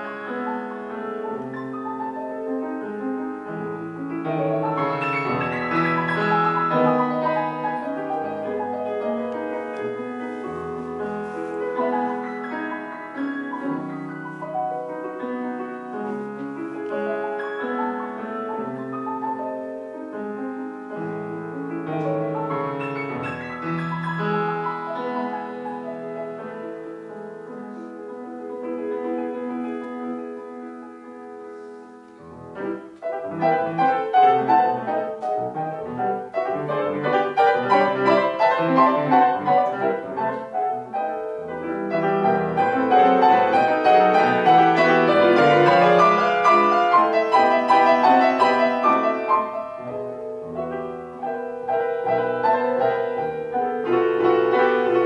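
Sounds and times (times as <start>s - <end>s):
classical piano piece: 0.0s - 55.0s.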